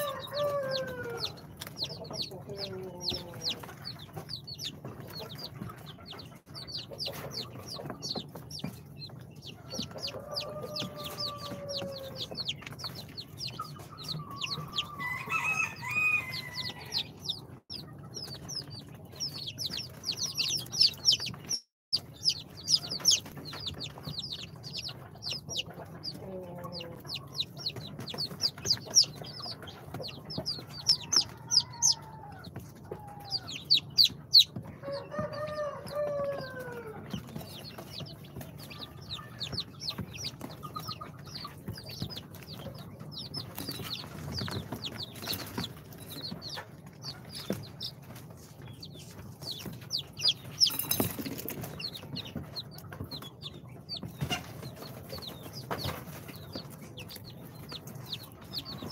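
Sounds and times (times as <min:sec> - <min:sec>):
chicks peeping: 0:00.0 - 0:58.9.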